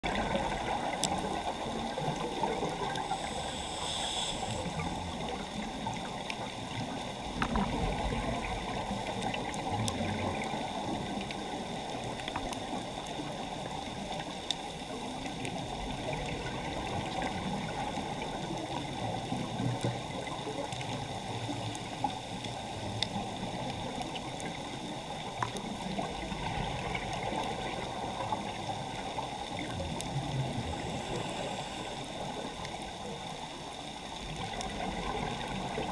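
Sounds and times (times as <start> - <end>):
underwater hiss and rumble: 0.0 - 35.9.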